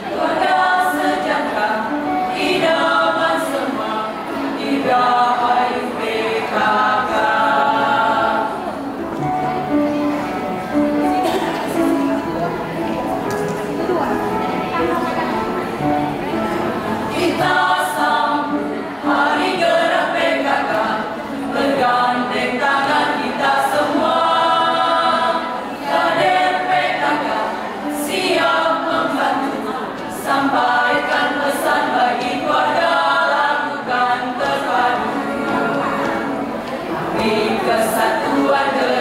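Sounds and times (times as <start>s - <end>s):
choir singing a march: 0.0s - 8.9s, 16.3s - 39.0s.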